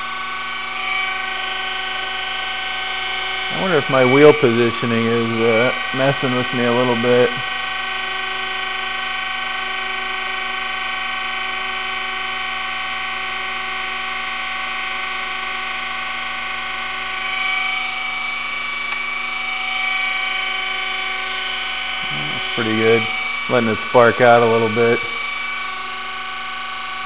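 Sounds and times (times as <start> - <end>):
grinder motor whine: 0.0 - 27.0.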